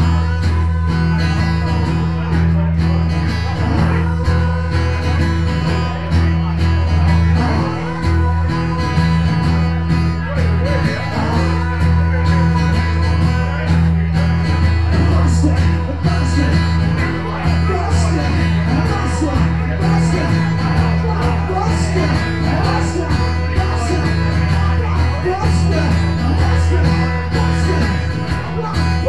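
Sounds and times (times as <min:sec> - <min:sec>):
strummed acoustic guitar through pa: 0:00.0 - 0:29.0.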